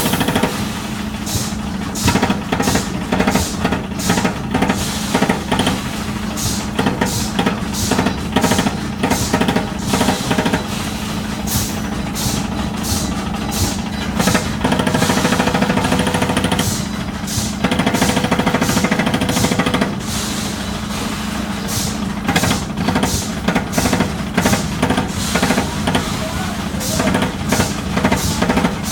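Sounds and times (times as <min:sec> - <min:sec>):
machine motor humming: 0:00.0 - 0:28.9
sharp metallic clacks: 0:00.0 - 0:28.9.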